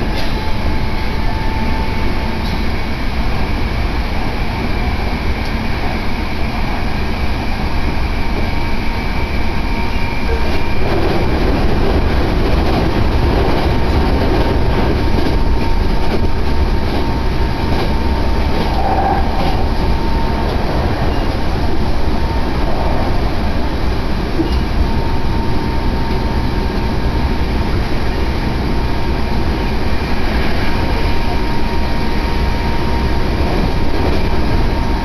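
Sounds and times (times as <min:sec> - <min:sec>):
faint train whine: 0:00.0 - 0:35.0
rail joint clicks: 0:00.0 - 0:35.0
wheels rumbling on rail: 0:00.0 - 0:35.0.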